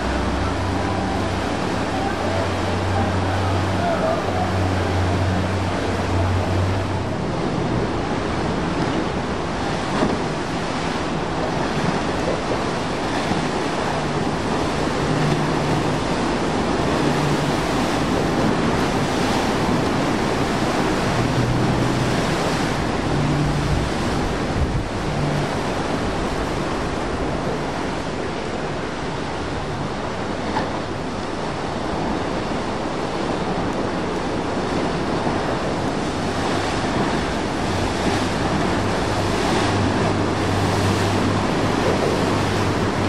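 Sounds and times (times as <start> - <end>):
turbulent water churning: 0.0 - 43.0
wind buffeting microphone: 0.0 - 43.0.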